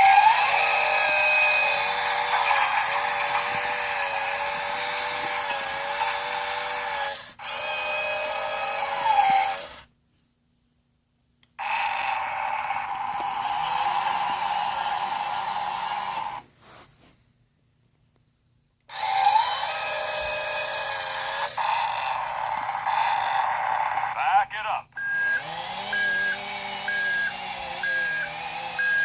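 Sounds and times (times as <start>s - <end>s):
toy power tool whirring: 0.0s - 9.9s, 11.6s - 16.4s, 18.9s - 24.2s, 25.0s - 29.0s
different steady whirring: 0.0s - 10.0s, 11.4s - 16.5s, 18.6s - 29.0s.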